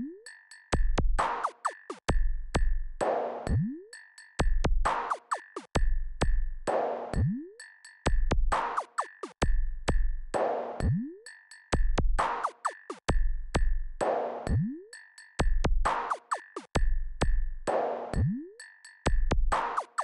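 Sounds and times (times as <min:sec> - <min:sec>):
electronic music with drum-machine beat: 0:00.0 - 0:20.0.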